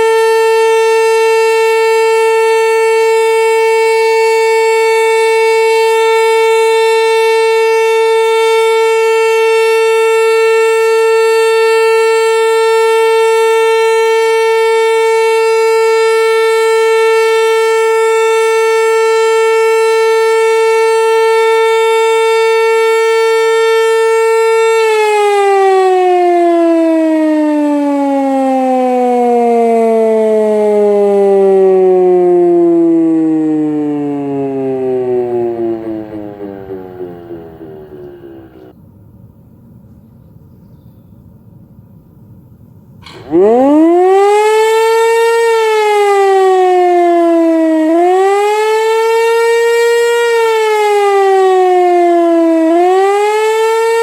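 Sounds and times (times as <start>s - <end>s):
siren steady tone winding down: 0.0s - 38.8s, 43.0s - 54.0s.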